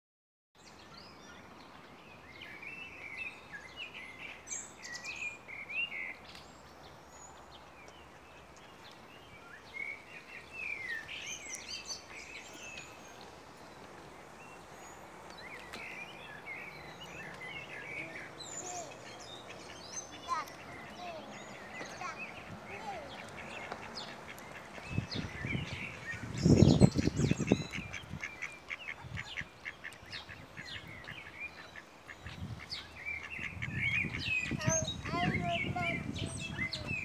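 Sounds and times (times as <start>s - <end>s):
songbirds chirping: 0.6s - 37.0s.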